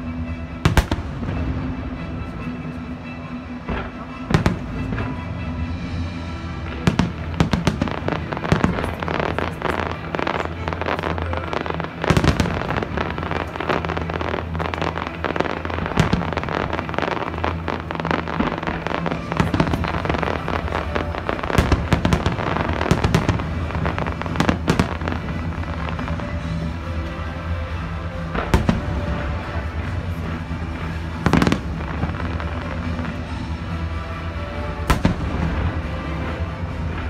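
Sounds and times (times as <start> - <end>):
music: 0.0 - 37.0
fireworks bangs and crackle: 0.6 - 2.6, 3.6 - 37.0.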